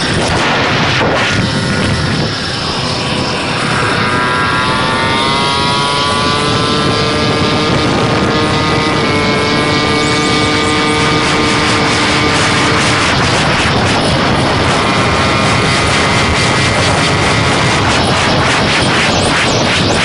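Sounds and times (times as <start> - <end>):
moped engine buzzing: 0.0 - 20.0
wind noise on microphone: 0.0 - 20.0.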